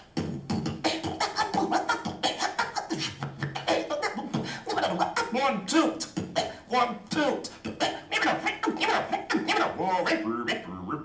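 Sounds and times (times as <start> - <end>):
vocal scratch sweeps: 0.0 - 10.6
beatboxing: 0.0 - 11.0.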